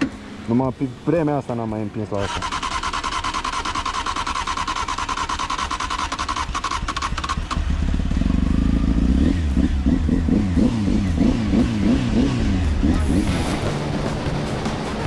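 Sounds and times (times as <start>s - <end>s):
motorcycle engine revving: 0.0s - 15.0s
rapid even ticking: 0.1s - 12.4s.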